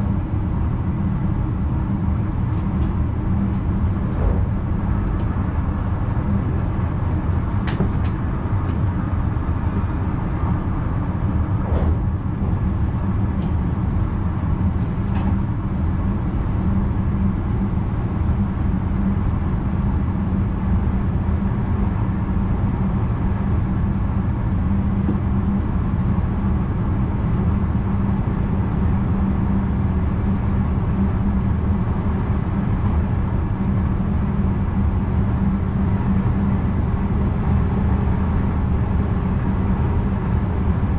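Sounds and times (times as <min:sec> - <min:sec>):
train low rumble and hum: 0:00.0 - 0:40.9.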